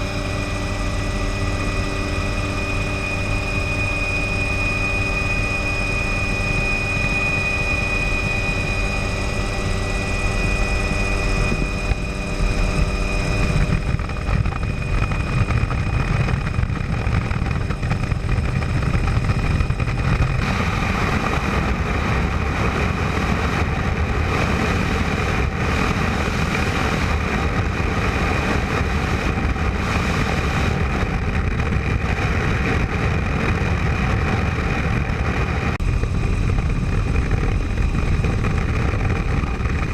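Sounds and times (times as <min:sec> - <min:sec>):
broad rushing noise: 0:00.0 - 0:39.9
helicopter engine and rotor: 0:00.0 - 0:39.9.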